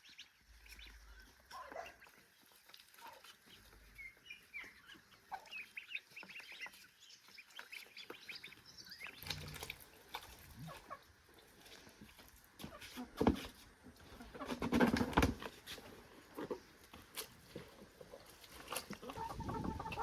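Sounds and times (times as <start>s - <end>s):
poultry peeping and clucking: 0.0s - 20.0s.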